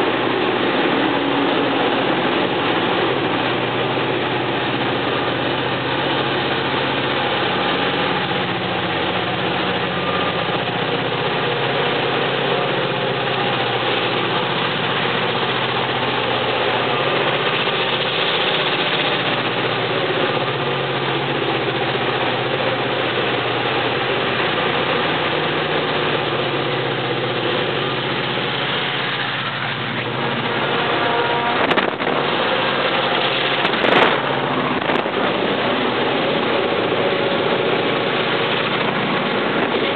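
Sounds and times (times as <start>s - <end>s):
diesel locomotives working hard: 0.0s - 39.9s.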